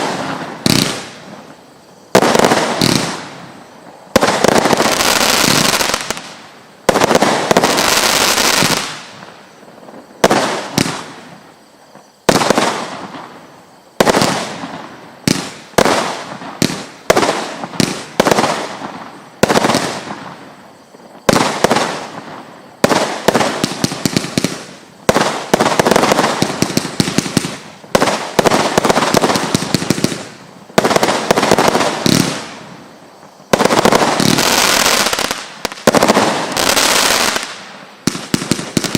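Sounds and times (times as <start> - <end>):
firework bursts: 0.0 - 38.9.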